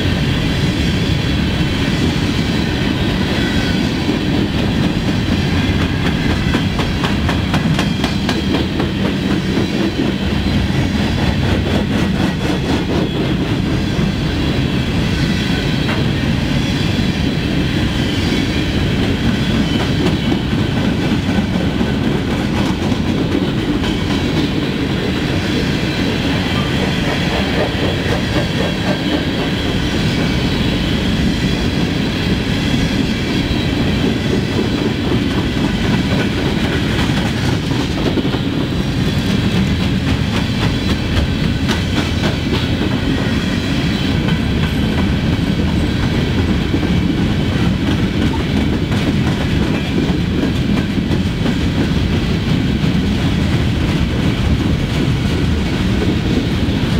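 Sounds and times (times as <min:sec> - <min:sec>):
train wheels rumbling on rail: 0:00.0 - 0:56.9
wheels clickety-clack on rail joints: 0:00.0 - 0:56.9.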